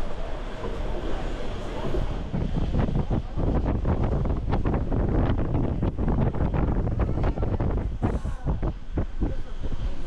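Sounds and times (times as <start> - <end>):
moving train rumble: 0.0 - 10.0
wind buffeting microphone: 0.0 - 10.0.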